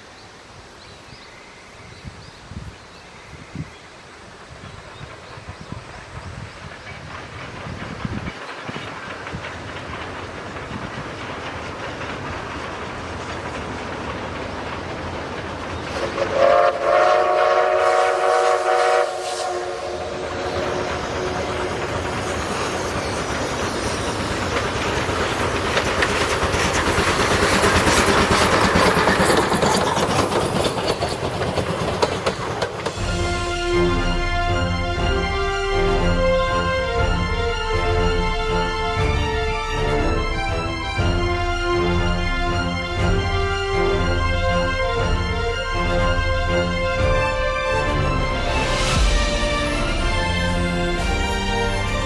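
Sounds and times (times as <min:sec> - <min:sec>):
train wheels rattling on rails: 0:02.1 - 0:52.0.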